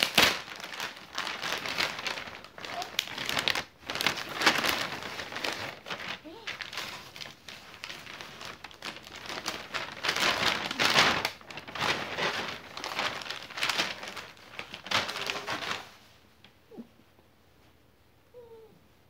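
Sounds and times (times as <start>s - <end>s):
plastic sheet crinkling: 0.0s - 16.3s.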